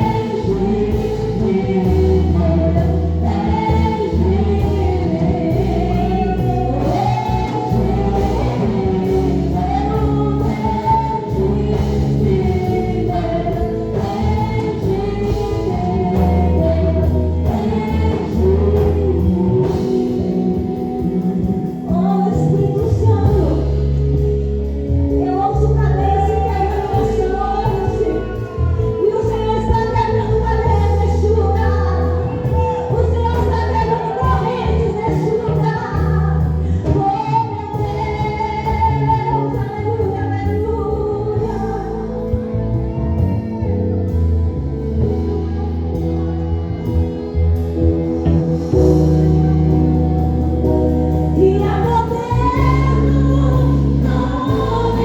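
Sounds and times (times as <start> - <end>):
instrumental accompaniment: 0.0 - 55.0
sustained bass notes: 0.0 - 55.0.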